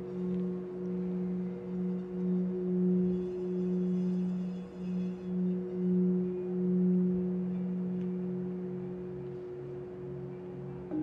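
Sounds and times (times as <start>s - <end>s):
singing bowls ringing: 0.0s - 11.0s.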